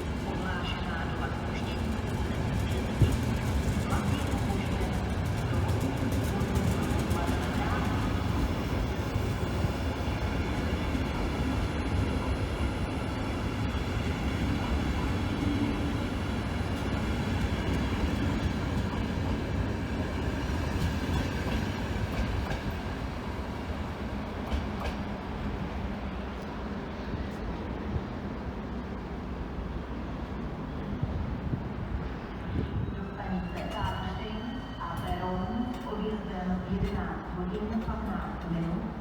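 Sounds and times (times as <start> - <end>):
train rumbling on tracks: 0.0 - 39.0.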